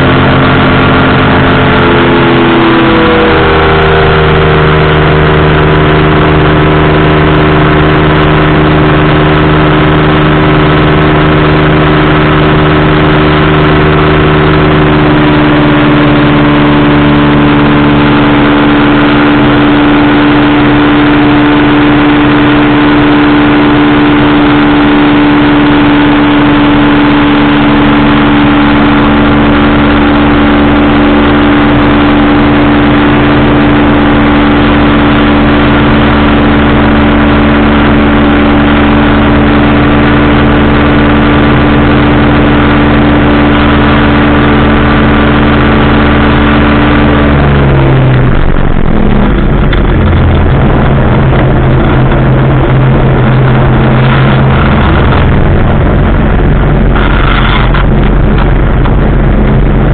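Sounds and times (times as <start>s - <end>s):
engine and propeller running: 0.0s - 59.9s.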